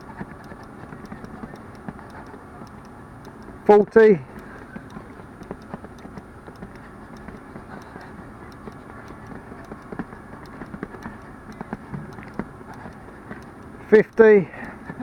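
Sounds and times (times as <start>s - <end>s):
light running footfalls: 0.0s - 2.8s, 3.4s - 15.0s.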